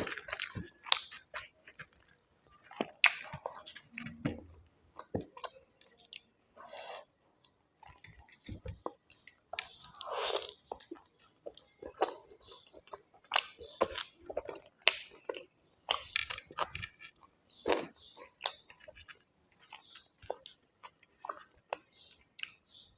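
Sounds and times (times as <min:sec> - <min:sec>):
person chewing food: 0:00.0 - 0:22.9.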